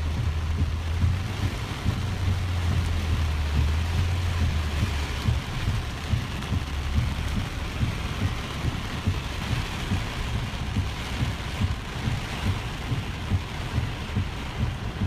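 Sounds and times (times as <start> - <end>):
heavy rain hitting a car: 0.0 - 15.0
low rumble of car and wind: 0.0 - 15.0.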